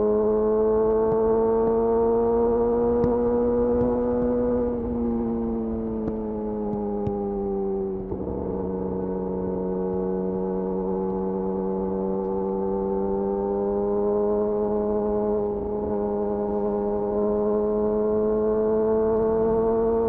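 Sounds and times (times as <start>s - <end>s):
motorcycle engine drone: 0.0s - 20.0s.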